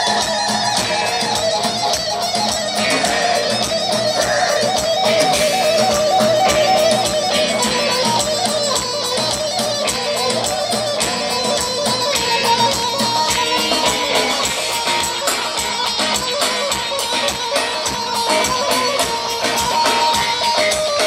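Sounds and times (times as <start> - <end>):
live band dance music: 0.0 - 21.0.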